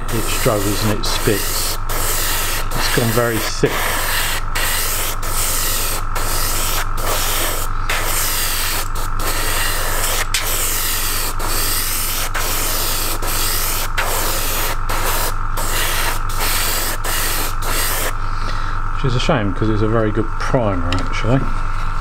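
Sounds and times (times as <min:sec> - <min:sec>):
airbrush spraying and spitting: 0:00.0 - 0:18.2.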